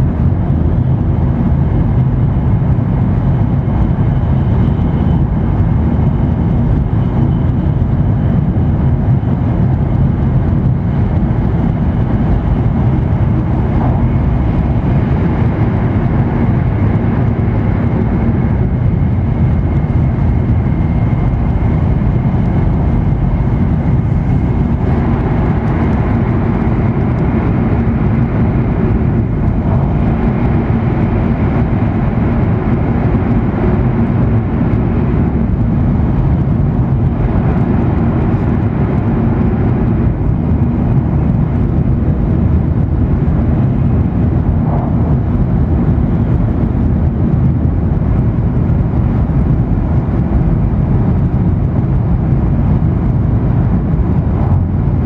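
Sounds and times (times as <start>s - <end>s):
train running noise inside cabin: 0.0s - 55.0s.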